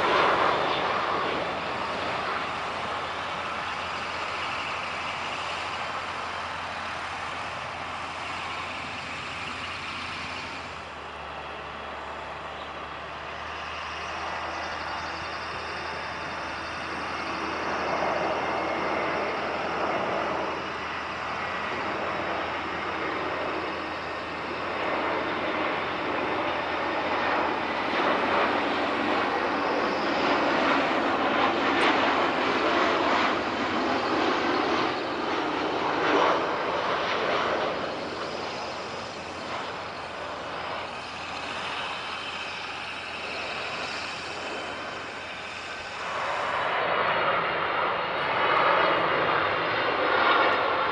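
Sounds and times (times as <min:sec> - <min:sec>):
airliner jet engines passing: 0:00.0 - 0:50.9.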